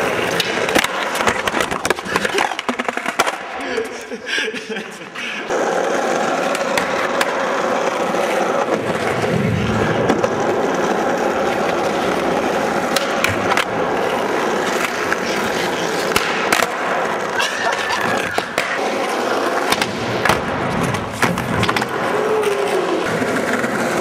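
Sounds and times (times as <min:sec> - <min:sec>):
skateboard clacks: 0:00.0 - 0:03.6, 0:05.5 - 0:24.0
skateboard wheels rolling on concrete: 0:00.0 - 0:04.1, 0:05.0 - 0:24.0.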